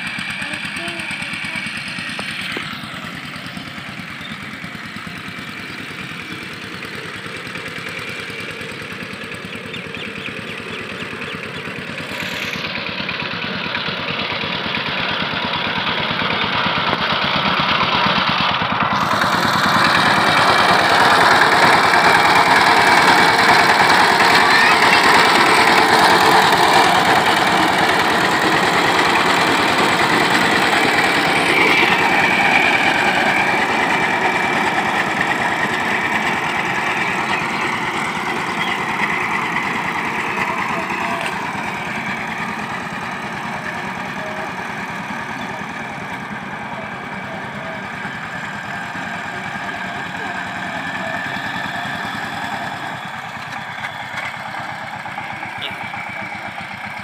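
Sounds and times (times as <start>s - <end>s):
power tiller diesel engine: 0.0s - 57.0s.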